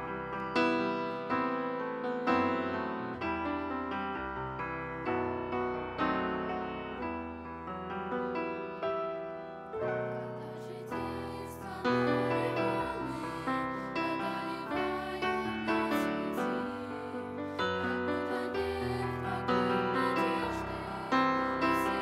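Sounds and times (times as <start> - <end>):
solo grand piano: 0.0 - 22.0.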